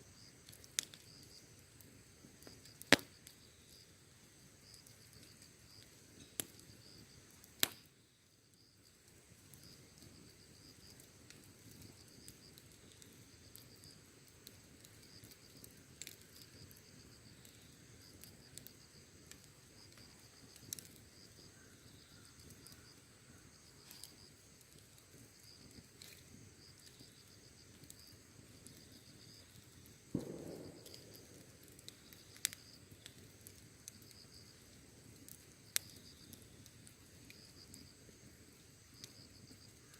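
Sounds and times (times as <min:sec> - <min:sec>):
insects chirping: 0:00.0 - 0:39.9
wood fire crackling: 0:00.0 - 0:39.9.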